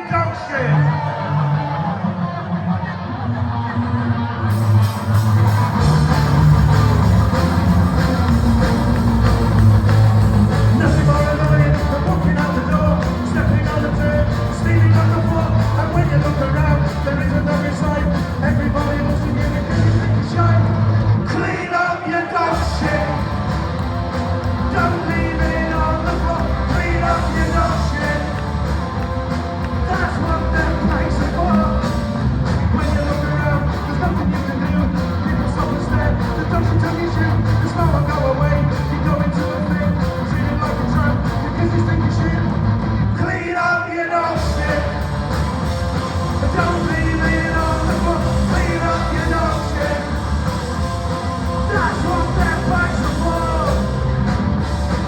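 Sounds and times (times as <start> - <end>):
punk rock band with vocals: 0.0 - 55.0.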